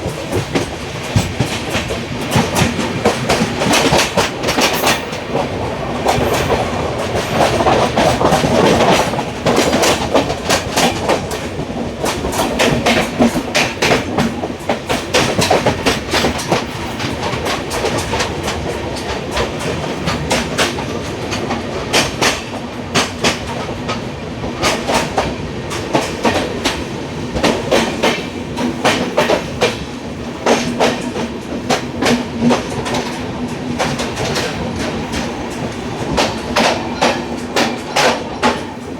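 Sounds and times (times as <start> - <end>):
train wheels rumbling and clicking: 0.0 - 38.9.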